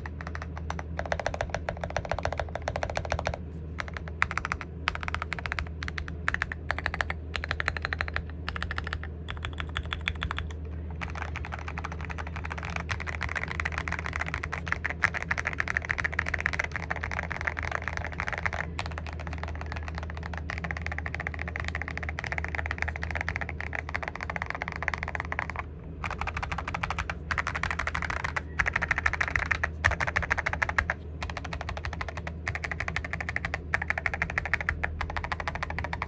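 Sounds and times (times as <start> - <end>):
mechanical keyboard typing: 0.0 - 36.0.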